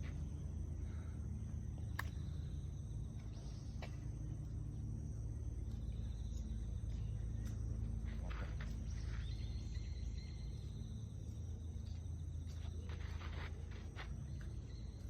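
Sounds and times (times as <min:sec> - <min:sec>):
high insect trill: 0:00.0 - 0:15.0
low constant rumble: 0:00.0 - 0:15.0.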